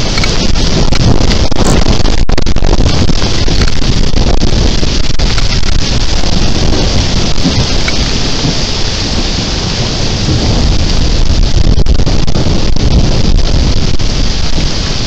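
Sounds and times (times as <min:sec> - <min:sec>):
heavy rain pouring: 0:00.0 - 0:15.0
low thunder rumble: 0:00.0 - 0:15.0.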